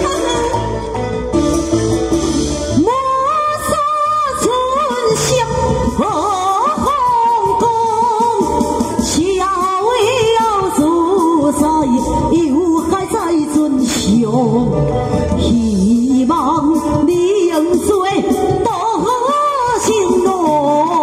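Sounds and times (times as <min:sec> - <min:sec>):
instrumental accompaniment: 0:00.0 - 0:21.0
person singing into a microphone: 0:02.8 - 0:21.0.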